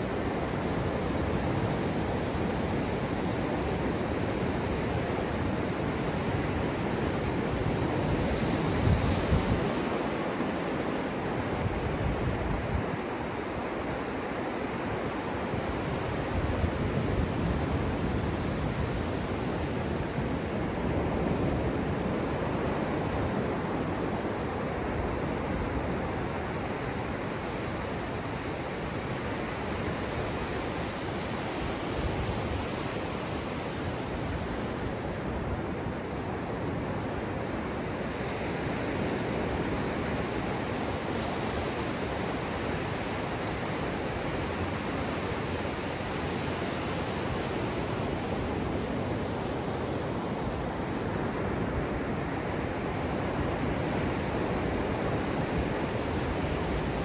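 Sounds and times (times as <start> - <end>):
small waves breaking on a beach: 0.0 - 57.0.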